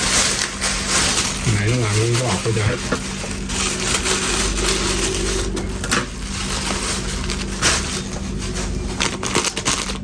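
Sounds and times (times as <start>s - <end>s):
low steady hum: 0.0s - 10.0s
parcel wrapping tearing: 0.0s - 10.0s.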